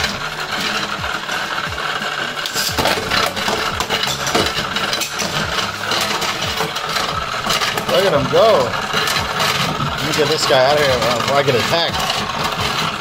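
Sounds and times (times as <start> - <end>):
motorized disc whirring: 0.0 - 13.0
spinning tops clattering: 0.0 - 13.0.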